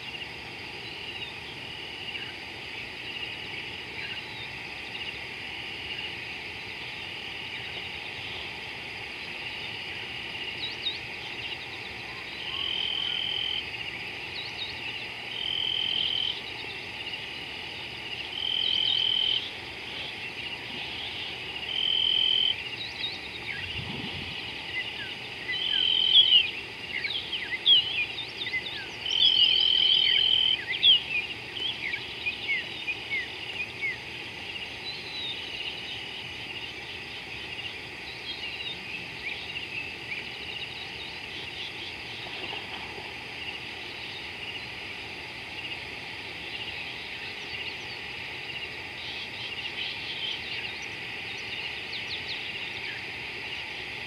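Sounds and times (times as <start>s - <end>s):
insect trilling: 0.0s - 54.0s.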